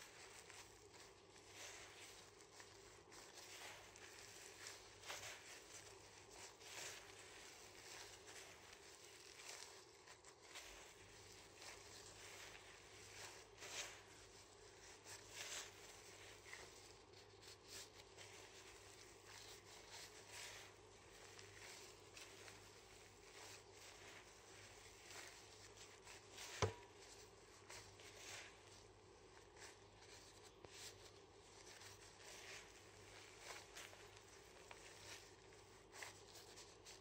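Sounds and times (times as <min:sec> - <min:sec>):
meat squishing: 0:00.0 - 0:37.0
plastic glove crinkling: 0:00.0 - 0:37.0.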